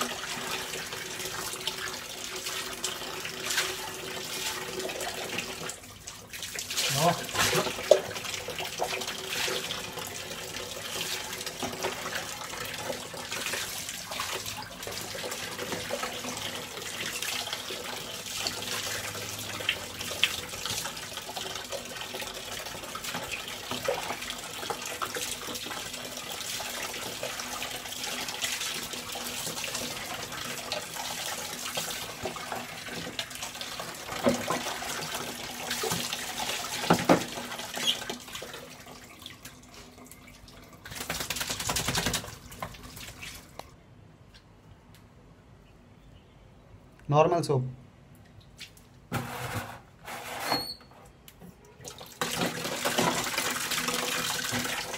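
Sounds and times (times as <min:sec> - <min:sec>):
tap water running into bucket: 0:00.0 - 0:43.7, 0:51.6 - 0:54.9.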